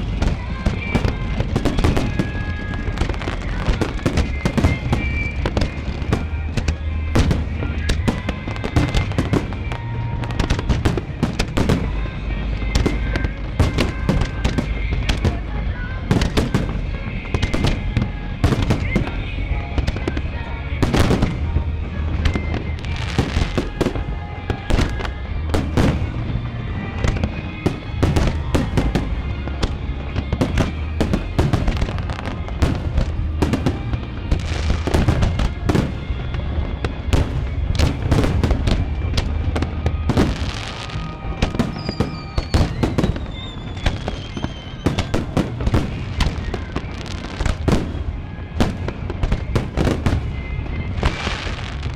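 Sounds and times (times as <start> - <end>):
fireworks booming and crackling: 0.0 - 51.9
low rumble: 0.0 - 51.9
music playing: 0.0 - 51.9.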